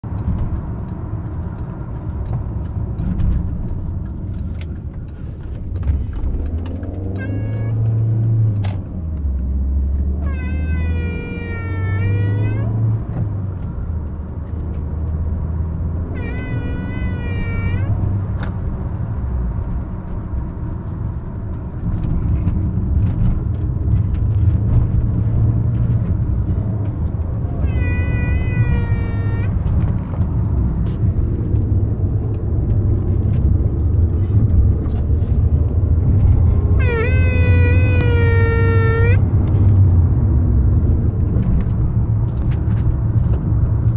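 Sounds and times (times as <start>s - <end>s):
engine and road rumble: 0.0s - 43.9s
high engine whine: 0.2s - 21.2s, 21.8s - 43.9s.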